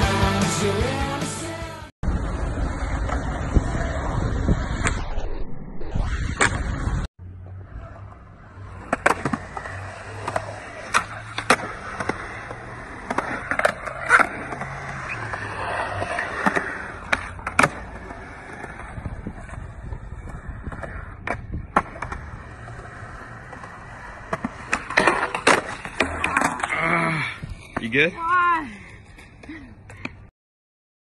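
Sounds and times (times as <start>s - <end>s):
skateboard wheels rolling on concrete: 0.0s - 30.3s.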